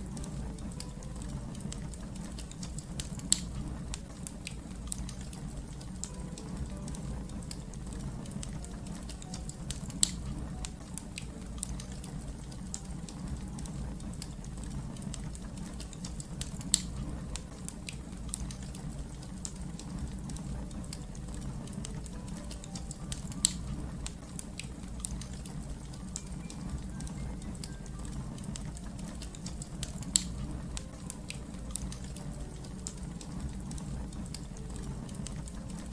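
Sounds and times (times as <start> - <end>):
fire rumbling in fireplace: 0.0 - 35.9
fire snapping and popping: 0.0 - 35.9.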